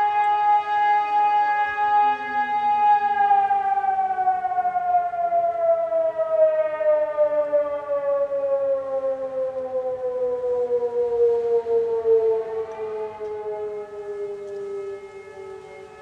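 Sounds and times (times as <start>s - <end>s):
siren winding down: 0.0s - 16.0s.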